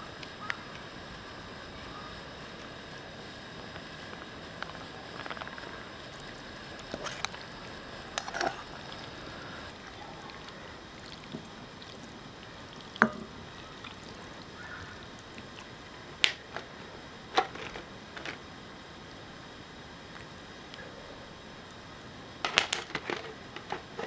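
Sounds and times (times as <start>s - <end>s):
low hiss: 0.0s - 24.0s.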